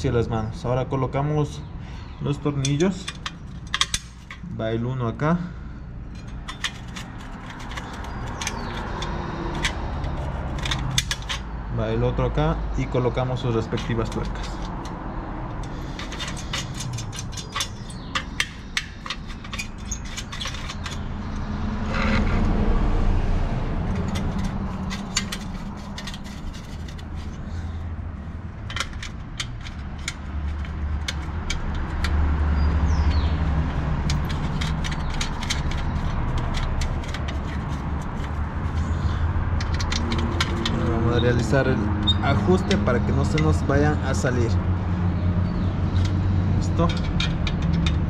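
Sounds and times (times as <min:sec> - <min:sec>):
metal bolts clicking and scraping: 0:02.2 - 0:04.8, 0:05.9 - 0:12.0, 0:12.8 - 0:48.0.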